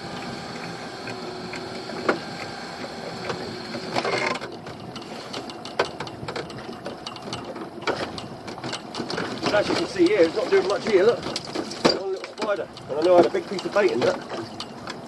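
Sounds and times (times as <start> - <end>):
pot hauler motor whirring: 0.0 - 15.0.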